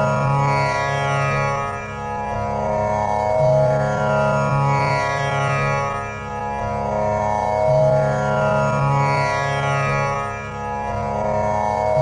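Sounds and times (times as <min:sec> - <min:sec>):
tanpura drone: 0:00.0 - 0:12.0.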